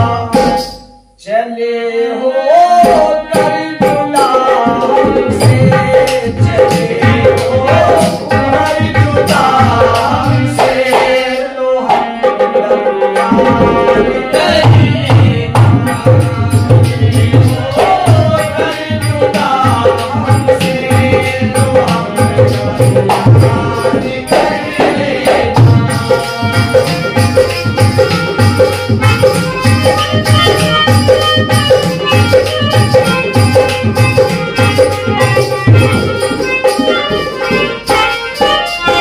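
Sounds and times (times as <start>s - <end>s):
hand drum beating rhythm: 0.0s - 0.8s, 2.7s - 39.0s
men singing together: 0.0s - 36.6s
harmonium: 2.5s - 39.0s.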